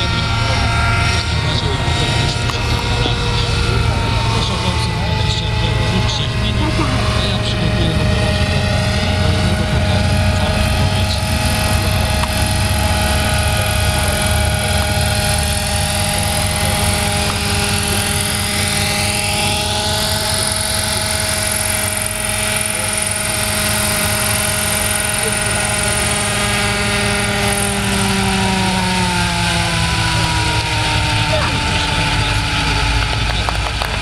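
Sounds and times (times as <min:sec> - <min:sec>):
high whine rising in pitch: 0:00.0 - 0:34.0
model helicopter engine and rotor: 0:00.0 - 0:34.0.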